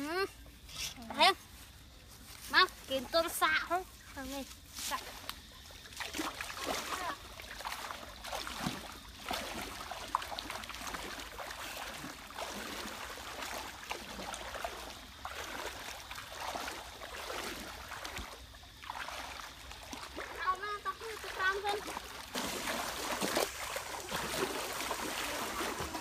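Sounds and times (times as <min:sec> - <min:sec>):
wading through stream water: 0:00.5 - 0:26.0.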